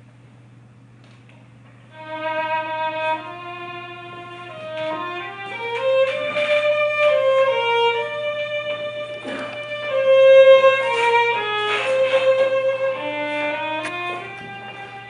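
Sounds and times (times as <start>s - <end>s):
solo violin melody: 1.9s - 15.0s.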